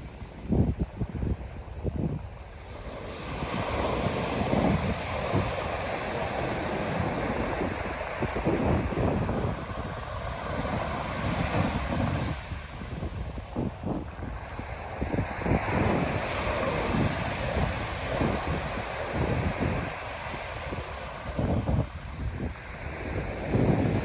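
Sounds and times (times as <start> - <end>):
ocean surf washing onto beach: 0.0 - 24.0
wind buffeting microphone: 0.0 - 24.0.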